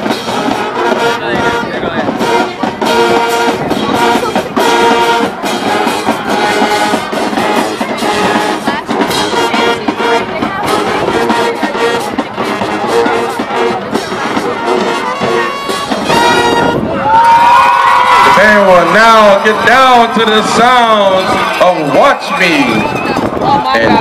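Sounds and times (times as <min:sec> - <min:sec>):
drums pounding: 0:00.0 - 0:24.0
marching band brass: 0:00.0 - 0:24.0.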